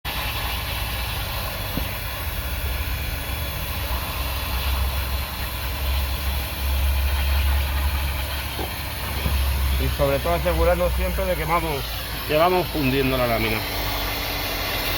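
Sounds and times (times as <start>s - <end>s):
hot-air welding gun hissing: 0.1s - 14.9s.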